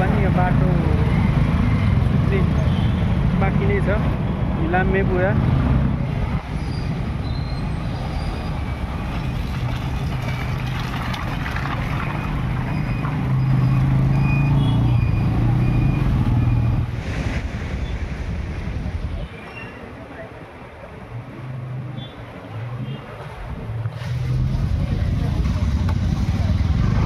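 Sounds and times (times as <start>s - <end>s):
road noise: 0.0s - 27.0s.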